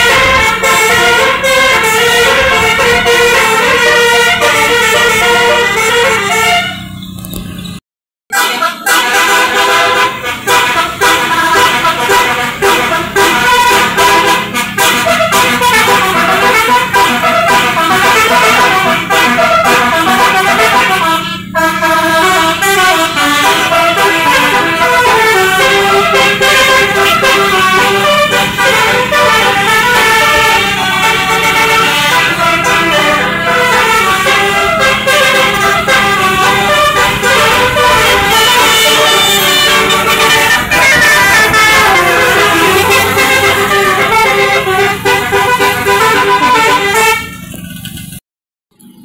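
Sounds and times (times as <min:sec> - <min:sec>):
musical bus horn playing a tune: 0:00.0 - 0:07.0, 0:08.3 - 0:47.7.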